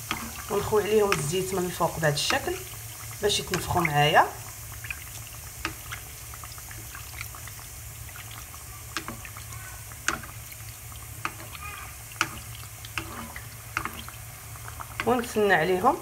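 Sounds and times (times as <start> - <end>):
metal spoon ladling oil: 0.0 - 15.4
donuts sizzling in hot oil: 0.0 - 16.0.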